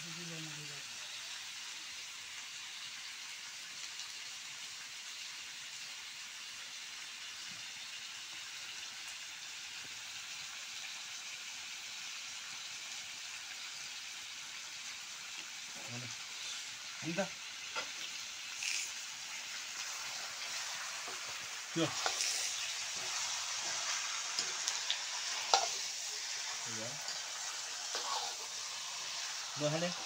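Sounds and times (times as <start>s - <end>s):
food sizzling in a wok: 0.0s - 30.0s.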